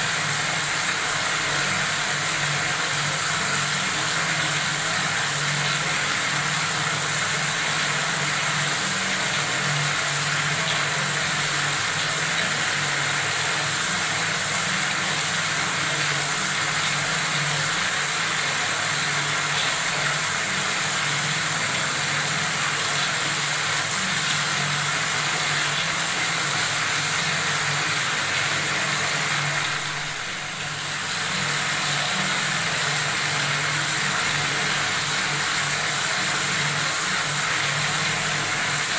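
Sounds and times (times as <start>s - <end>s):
water faucet running: 0.0s - 38.9s.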